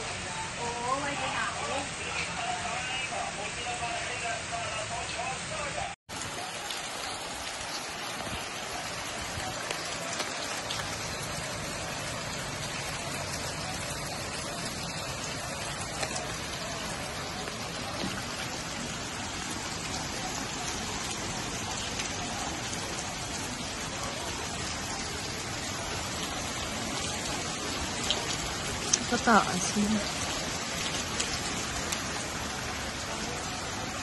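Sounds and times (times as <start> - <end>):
rain falling on water: 0.0 - 34.0.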